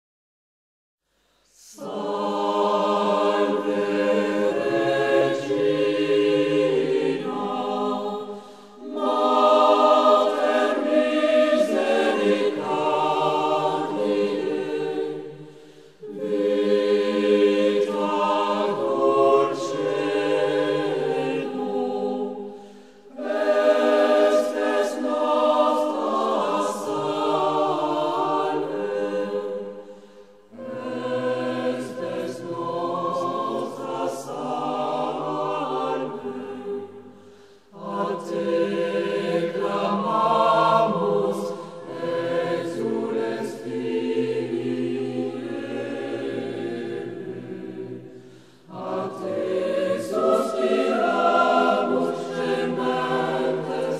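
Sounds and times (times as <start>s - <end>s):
choir singing: 1.4s - 53.9s.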